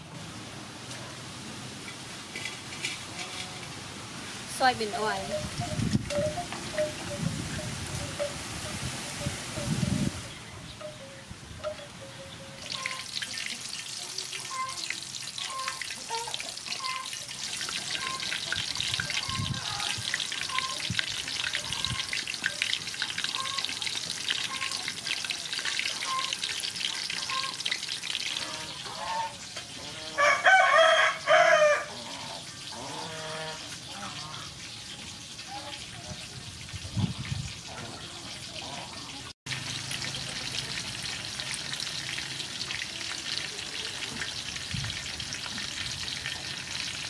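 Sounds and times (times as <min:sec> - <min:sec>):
deep-frying sizzle: 0:00.0 - 0:11.0, 0:11.6 - 0:47.0.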